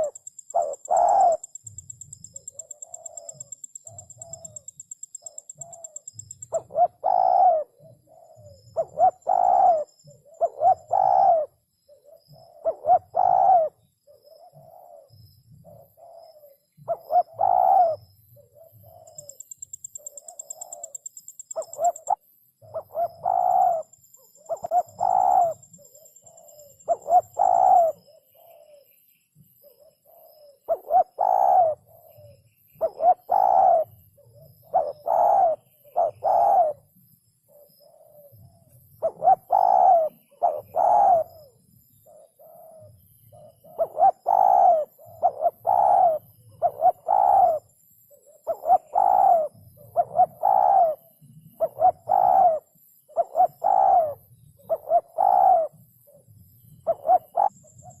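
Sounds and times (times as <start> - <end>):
dove cooing: 0.0 - 29.0, 29.6 - 36.9, 37.5 - 58.0.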